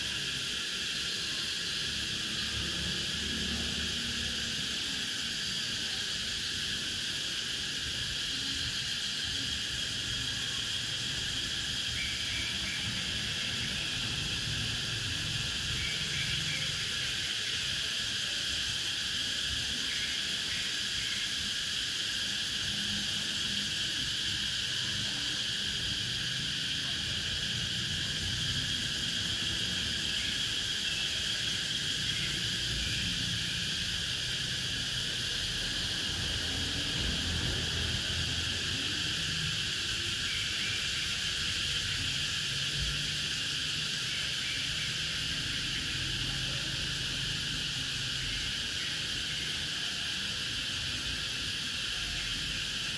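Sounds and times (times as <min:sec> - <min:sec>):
cicadas singing: 0:00.0 - 0:52.9
faint short insect calls: 0:00.0 - 0:52.9.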